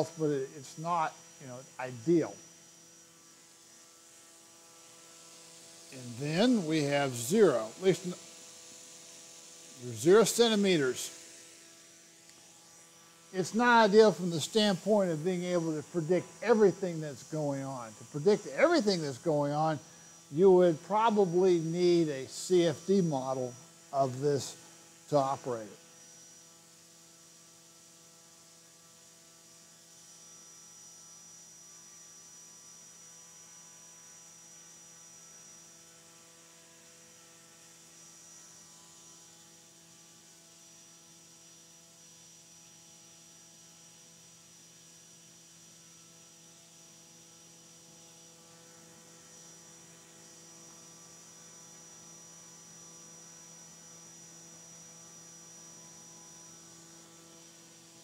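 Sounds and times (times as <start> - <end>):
electric motor and propeller hum: 0.0 - 58.0.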